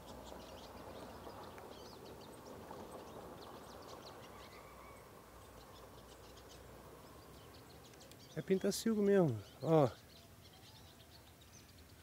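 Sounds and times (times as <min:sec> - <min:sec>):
birds twittering: 0:00.0 - 0:12.0.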